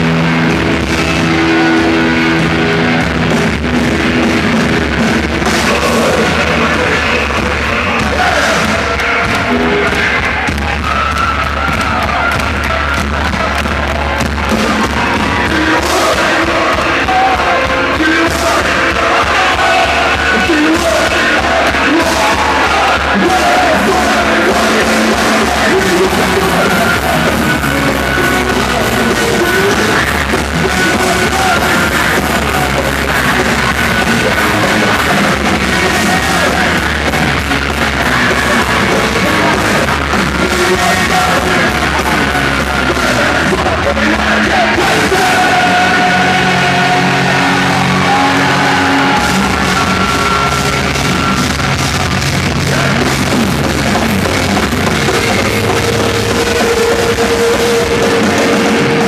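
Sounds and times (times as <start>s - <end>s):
live rock band playing: 0.0s - 59.0s
person shouting singing: 5.4s - 12.8s, 14.6s - 59.0s.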